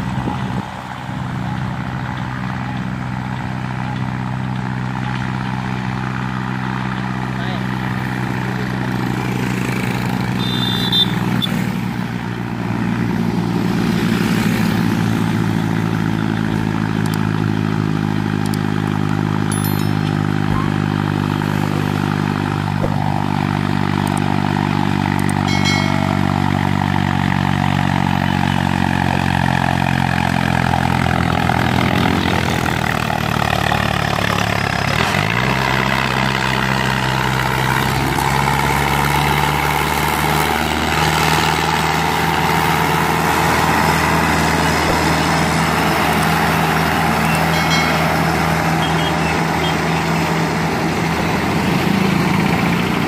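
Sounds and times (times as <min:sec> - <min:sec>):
tractor diesel engine passing: 0:00.0 - 0:53.0.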